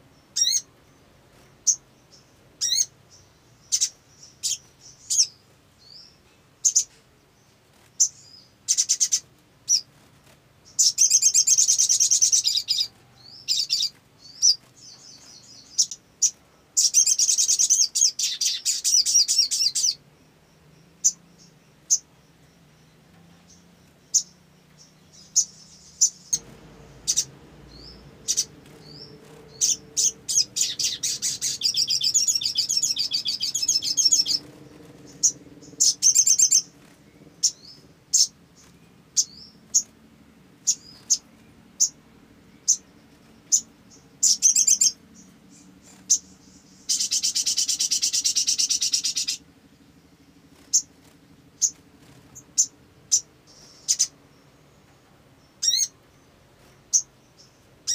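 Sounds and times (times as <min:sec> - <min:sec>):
bird chirping and trilling: 0:00.1 - 0:07.0, 0:07.9 - 0:10.0, 0:10.6 - 0:54.7, 0:55.4 - 0:57.9.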